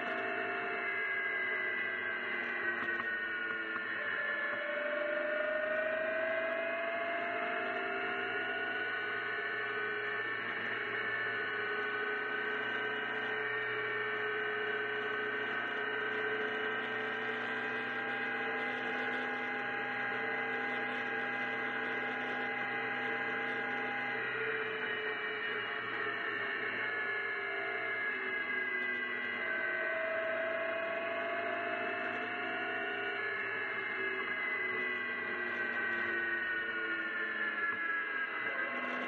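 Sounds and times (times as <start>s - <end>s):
car engine droning: 0.0s - 39.0s.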